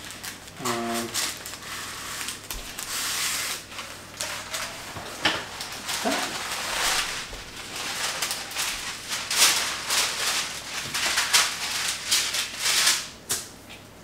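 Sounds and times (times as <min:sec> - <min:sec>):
rustling and scraping: 0:00.8 - 0:13.1.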